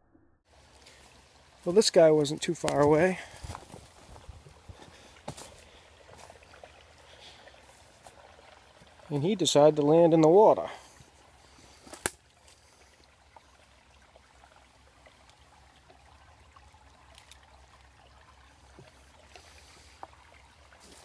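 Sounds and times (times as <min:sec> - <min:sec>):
small creek trickling: 0:00.5 - 0:21.0.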